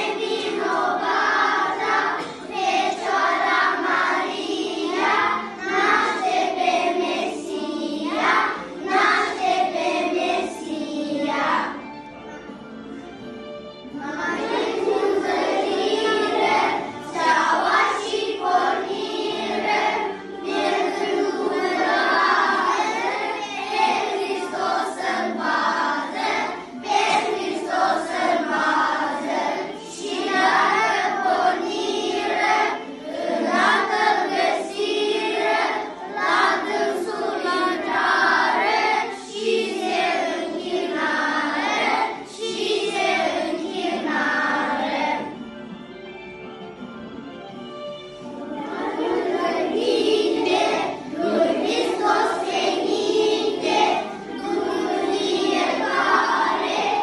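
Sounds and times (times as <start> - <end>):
children singing together: 0.0 - 12.5, 13.1 - 46.0, 48.2 - 57.0.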